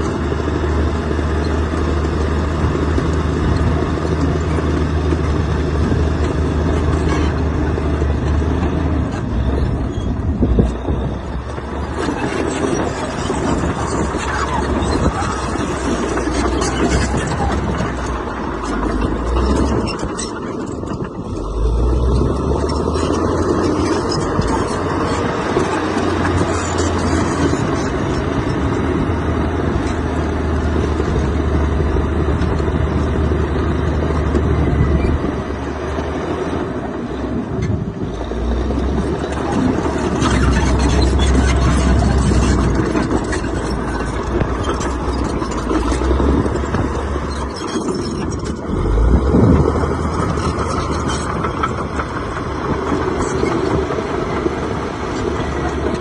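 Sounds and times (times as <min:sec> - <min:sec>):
machinery knocks and rattles: 0:00.0 - 0:36.8, 0:37.5 - 0:56.0
diesel engine under load: 0:00.0 - 0:56.0.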